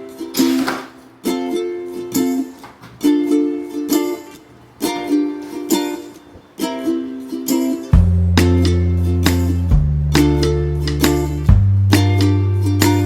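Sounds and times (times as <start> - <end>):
strummed ukulele chords: 0.0 - 13.0.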